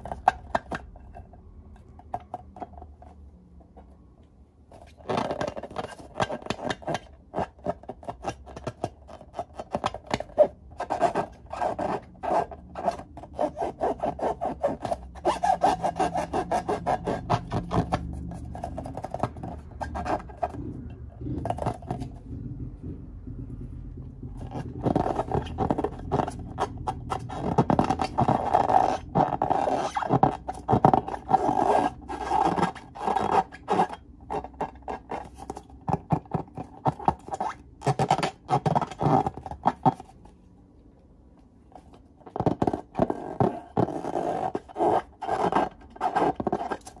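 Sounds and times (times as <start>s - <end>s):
fingers rubbing latex balloons: 0.0s - 1.2s, 4.7s - 40.3s, 41.8s - 47.0s.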